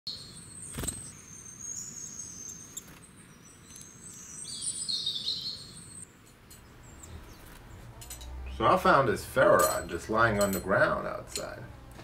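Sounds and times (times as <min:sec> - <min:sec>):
songbirds singing and chirping: 0:00.1 - 0:12.0.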